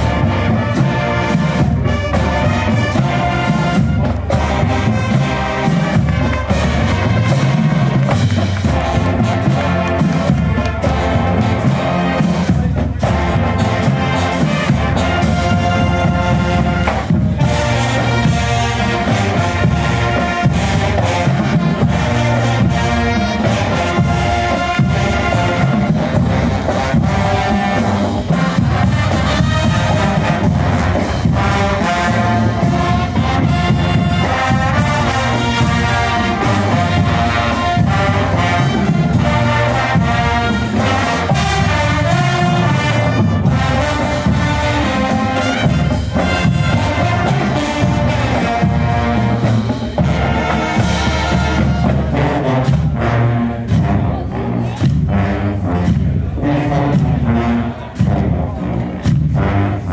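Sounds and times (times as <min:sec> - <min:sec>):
marching band brass: 0:00.0 - 0:59.9
steady drum beat: 0:00.0 - 0:59.9.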